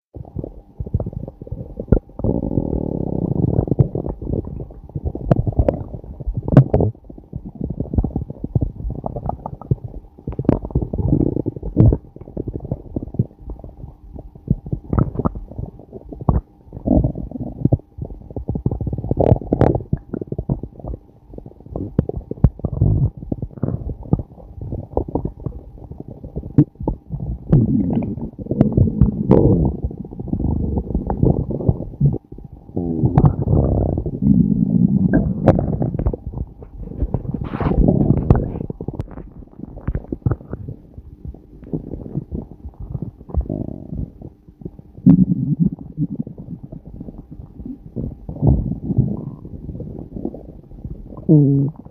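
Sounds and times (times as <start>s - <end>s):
stomach growling and gurgling: 0.2s - 51.9s.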